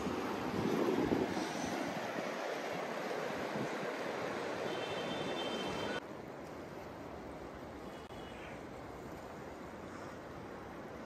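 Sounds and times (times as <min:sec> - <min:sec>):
river water rushing and lapping: 0:00.0 - 0:11.0.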